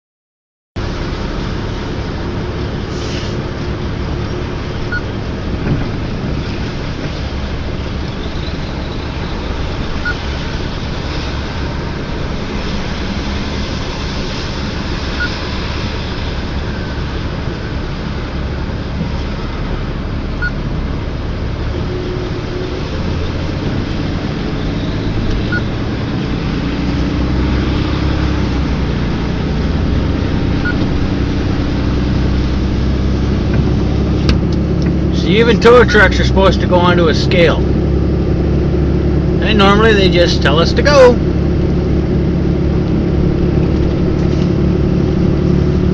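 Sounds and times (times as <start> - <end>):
road noise: 0.8 - 45.9
truck engine: 0.8 - 45.9.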